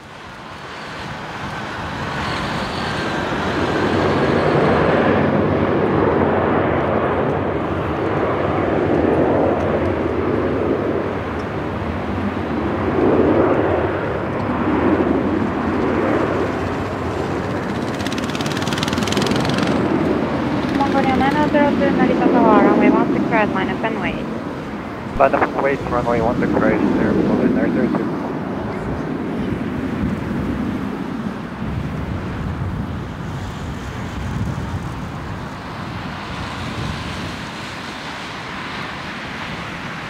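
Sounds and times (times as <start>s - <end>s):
jet engines taxiing: 0.0s - 40.0s.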